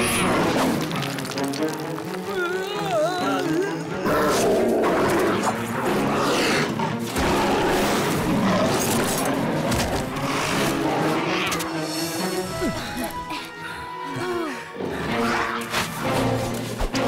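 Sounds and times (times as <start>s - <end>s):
dramatic background music: 0.0s - 17.0s.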